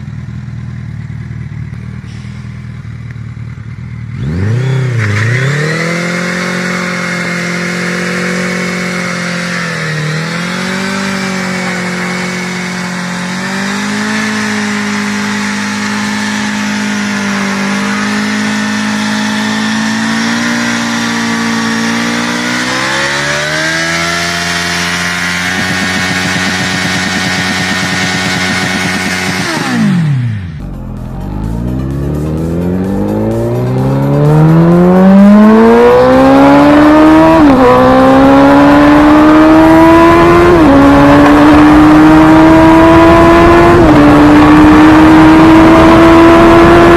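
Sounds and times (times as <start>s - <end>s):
motorcycle engine revving high: 0.0s - 46.9s.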